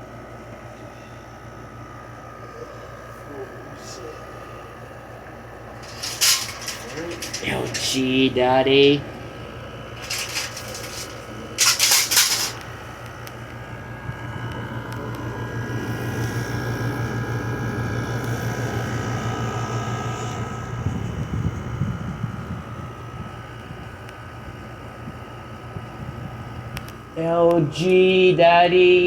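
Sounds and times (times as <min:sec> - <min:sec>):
air conditioner running: 0:00.0 - 0:29.0.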